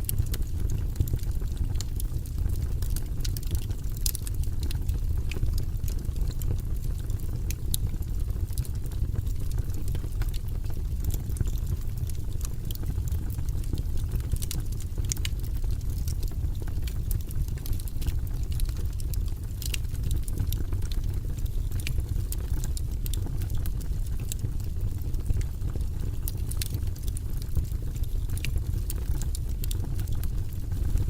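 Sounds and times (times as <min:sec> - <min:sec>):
burning wood crackling and popping: 0:00.0 - 0:31.0
low rumble of flames: 0:00.0 - 0:31.0.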